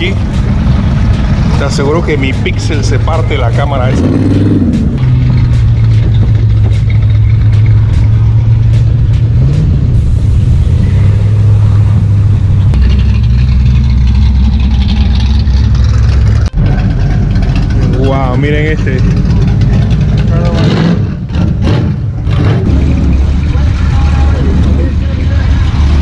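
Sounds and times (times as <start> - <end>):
car engines rumbling past: 0.0 - 26.0.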